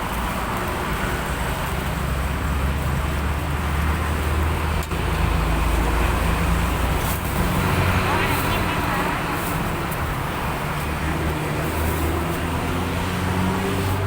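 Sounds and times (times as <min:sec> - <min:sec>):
road traffic noise: 0:00.0 - 0:14.0
vehicle engine hum: 0:00.0 - 0:14.0.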